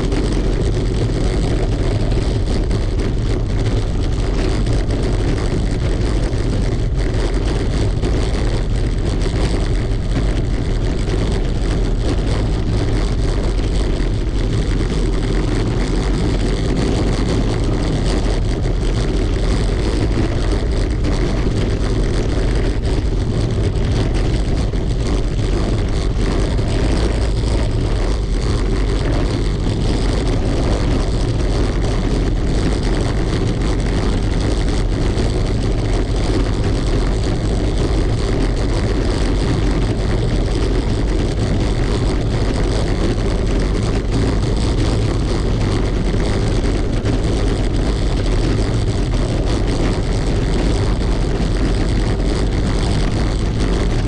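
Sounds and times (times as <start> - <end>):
bicycle rattling over cobblestones: 0.0 - 54.0.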